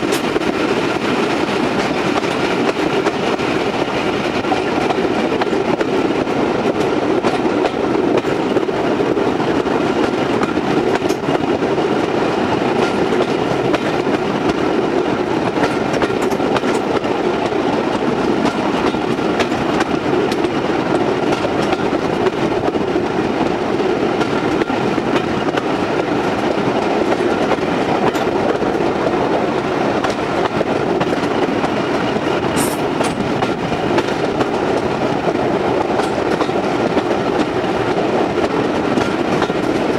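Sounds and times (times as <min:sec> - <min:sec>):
rail joint clicks: 0:00.0 - 0:39.9
train wheels rumbling on rails: 0:00.0 - 0:39.9.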